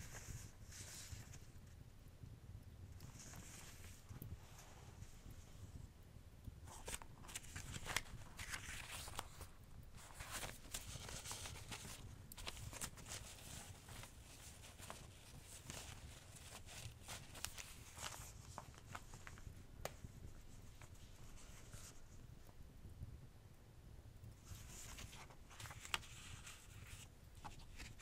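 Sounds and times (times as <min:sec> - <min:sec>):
soft rustling: 0:00.0 - 0:01.8, 0:02.9 - 0:05.9, 0:06.6 - 0:22.6, 0:24.3 - 0:28.0.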